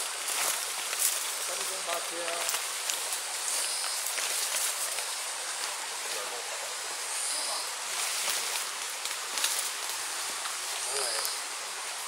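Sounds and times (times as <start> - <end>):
rustling of leaves and twigs: 0.0 - 12.0.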